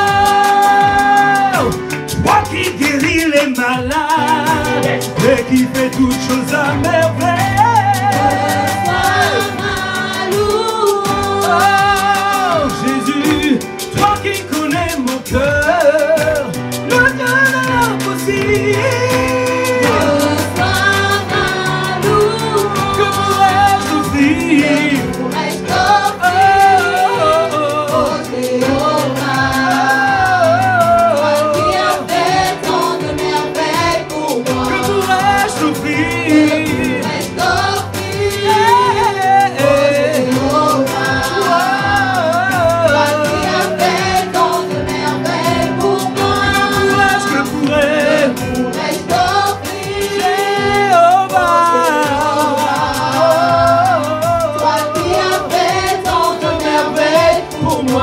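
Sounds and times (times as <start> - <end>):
band playing steady beat: 0.0 - 58.0
bass: 0.0 - 58.0
singers with backing vocals: 0.0 - 58.0.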